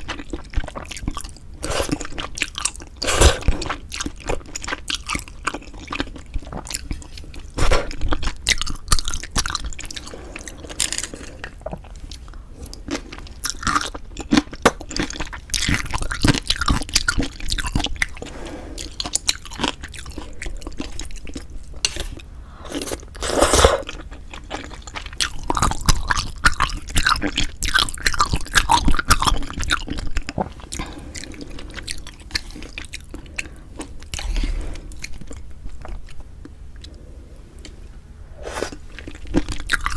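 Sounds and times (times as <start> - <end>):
chewing and biting food: 0.0 - 37.0, 38.6 - 39.9.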